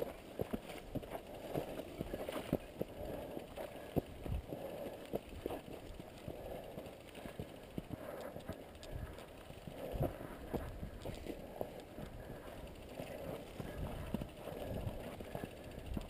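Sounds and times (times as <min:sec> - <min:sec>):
bicycles rattling: 0:00.0 - 0:16.0.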